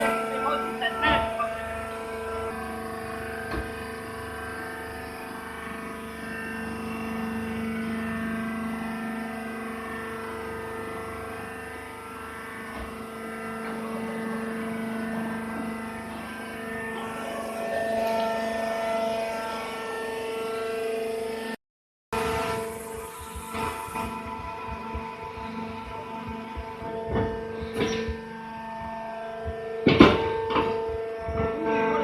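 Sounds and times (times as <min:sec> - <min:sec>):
hydraulic motor and pump humming: 0:00.0 - 0:21.6, 0:22.2 - 0:32.0.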